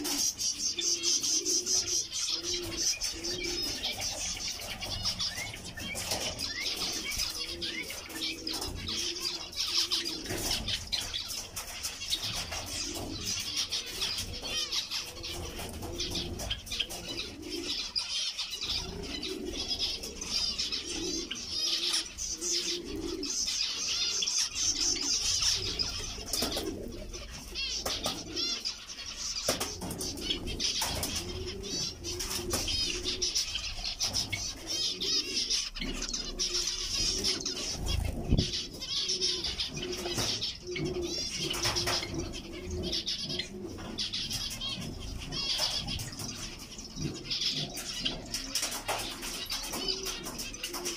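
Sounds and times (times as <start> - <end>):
low repeated bird call: 0.0 - 50.9.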